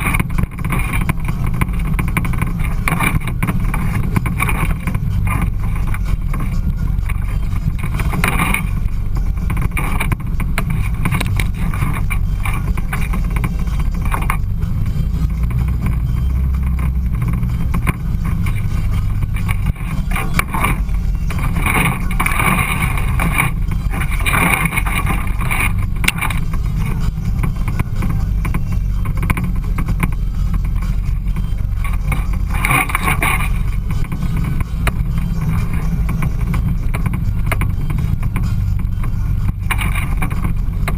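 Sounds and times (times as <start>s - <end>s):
vehicle engine and wind rumble: 0.0s - 40.9s.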